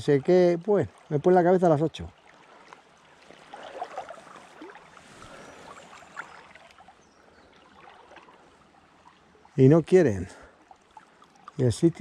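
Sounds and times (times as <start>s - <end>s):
river water running: 0.0s - 12.0s
water splashing: 0.0s - 12.0s.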